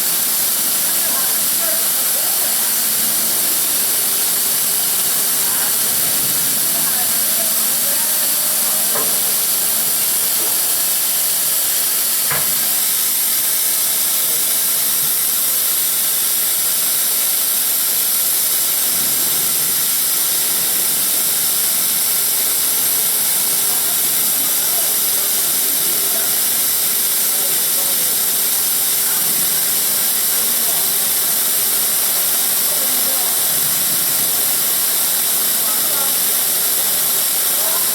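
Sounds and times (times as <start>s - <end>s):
drilling machine hissing: 0.0s - 37.9s.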